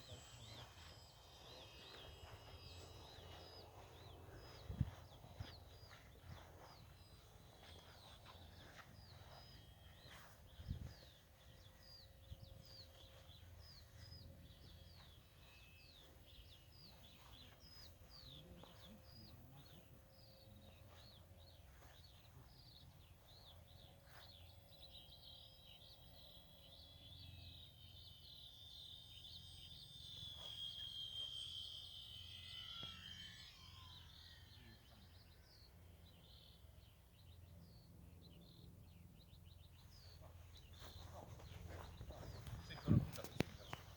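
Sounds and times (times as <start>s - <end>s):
model plane electric motor whine: 0.0s - 38.0s
faint bird chirps: 0.0s - 43.9s.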